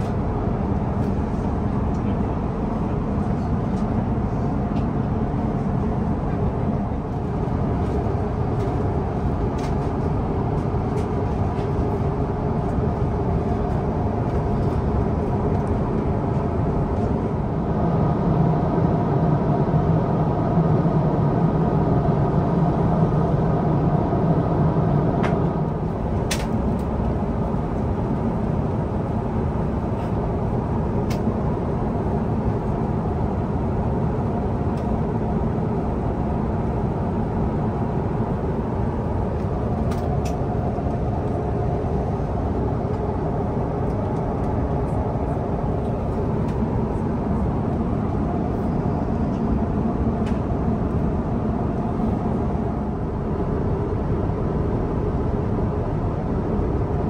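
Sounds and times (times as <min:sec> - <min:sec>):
airplane cabin rush and hum: 0:00.0 - 0:57.0.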